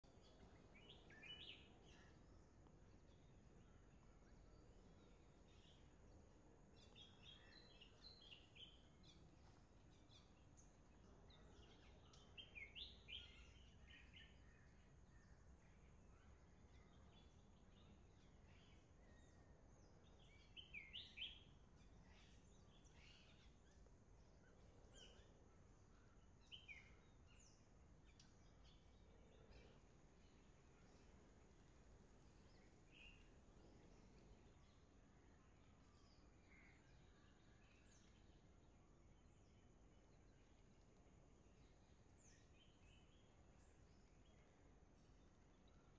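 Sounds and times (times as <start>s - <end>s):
faint low rumble: 0.0s - 12.4s, 13.2s - 45.9s
faint songbird chirps: 0.0s - 45.9s.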